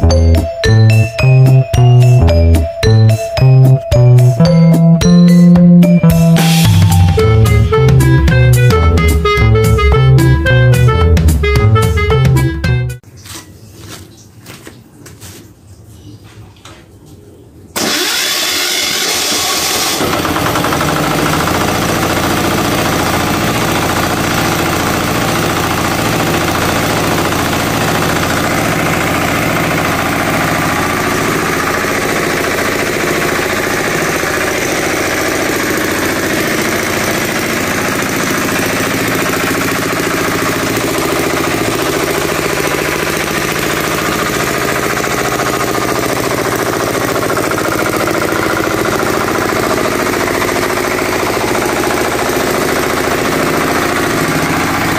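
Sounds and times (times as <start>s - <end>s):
diesel engine idling: 5.7s - 12.7s, 17.8s - 54.9s.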